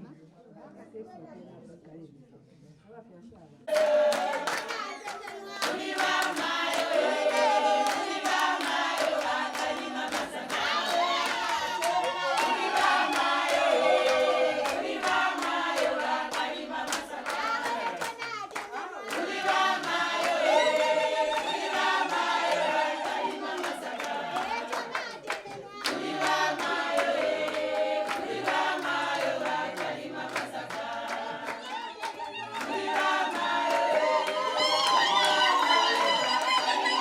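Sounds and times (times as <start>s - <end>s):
group singing in chorus: 3.7s - 37.0s
hand clapping: 3.7s - 37.0s.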